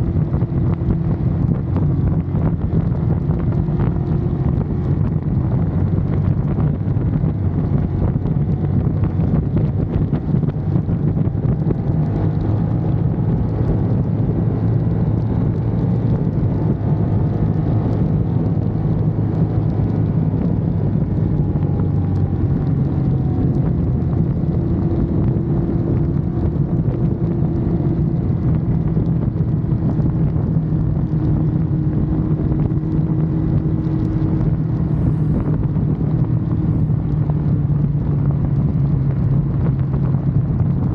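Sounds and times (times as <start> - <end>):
motorcycle engine running steadily: 0.0 - 40.9
wind rushing over microphone: 0.0 - 40.9.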